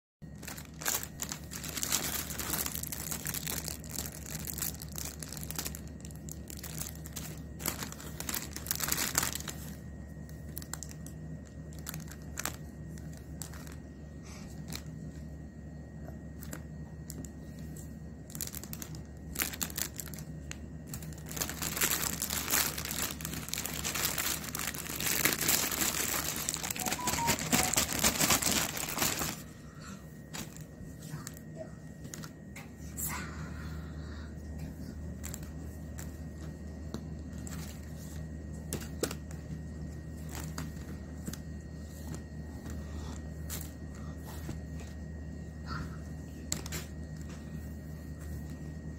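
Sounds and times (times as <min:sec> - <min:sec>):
plastic packaging crinkling: 0:00.2 - 0:15.2, 0:16.3 - 0:29.5, 0:30.3 - 0:31.4, 0:32.1 - 0:32.5, 0:35.2 - 0:44.8.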